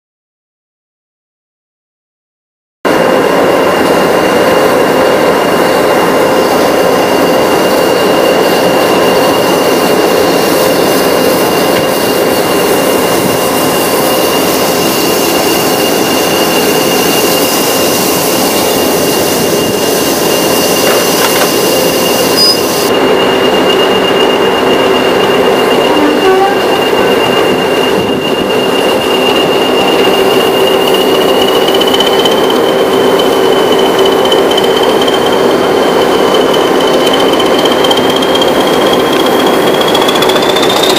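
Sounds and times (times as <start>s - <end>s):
diesel locomotive engine running: 2.9s - 40.9s
high turbocharger whistle: 6.3s - 40.9s.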